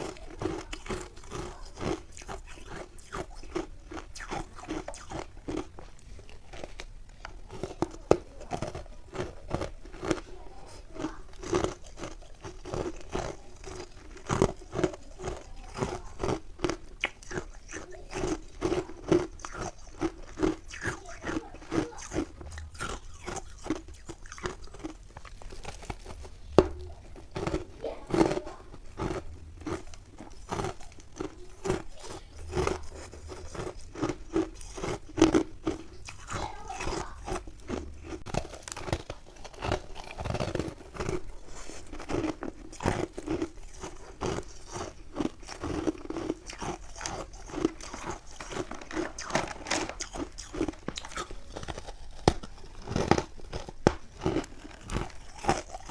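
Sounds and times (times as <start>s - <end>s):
crunchy ice chewing: 0.0s - 55.9s.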